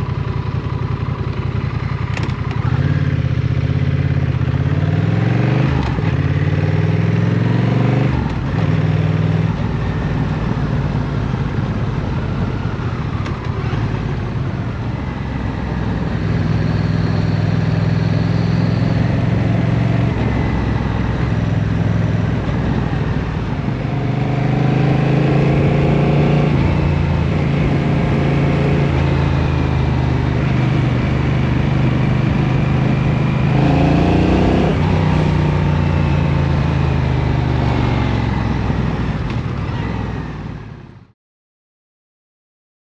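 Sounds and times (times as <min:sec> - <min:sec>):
motorcycle engine revving: 0:00.0 - 0:40.2.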